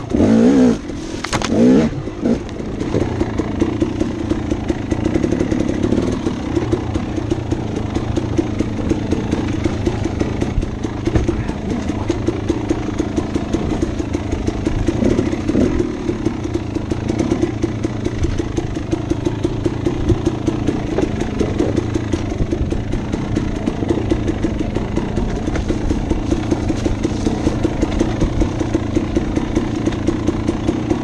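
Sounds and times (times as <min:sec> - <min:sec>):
dirt bike engine running: 0:00.0 - 0:31.0.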